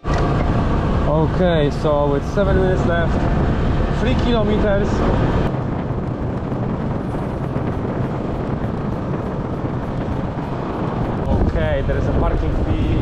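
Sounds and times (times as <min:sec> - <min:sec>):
scooter engine running: 0:00.0 - 0:13.0
wind rushing over microphone: 0:00.0 - 0:13.0.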